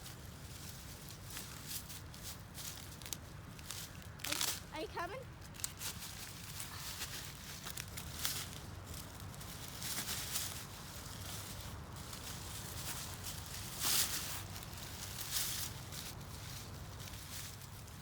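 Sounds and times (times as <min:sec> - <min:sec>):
dry leaves and twigs crunching: 0:00.0 - 0:18.0.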